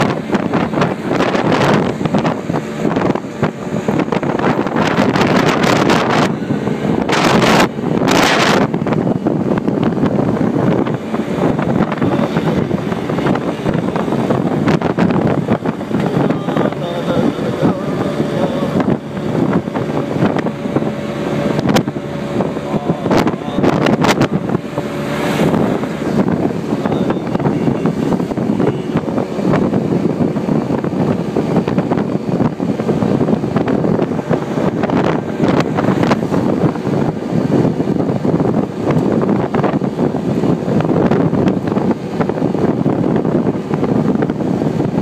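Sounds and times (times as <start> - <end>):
road noise: 0.0 - 45.0
wind buffeting microphone: 0.0 - 45.0.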